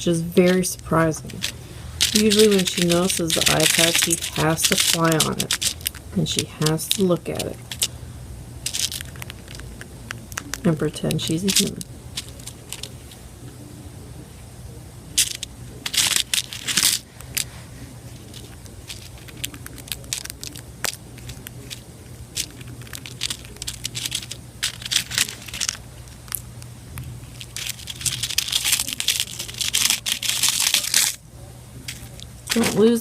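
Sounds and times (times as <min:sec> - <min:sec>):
bird pecking at food: 0:01.2 - 0:08.0, 0:08.6 - 0:13.6, 0:15.1 - 0:31.2.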